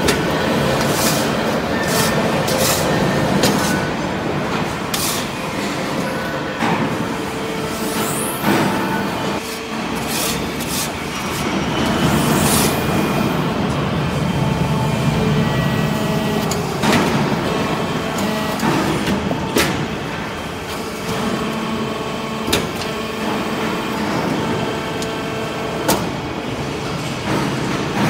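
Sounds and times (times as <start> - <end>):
hydraulic power unit humming: 0.0 - 28.0.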